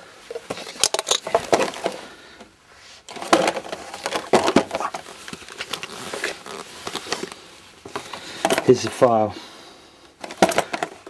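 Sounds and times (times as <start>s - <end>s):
rustling and knocks of handling: 0.2s - 2.5s, 3.1s - 9.2s, 10.1s - 11.0s.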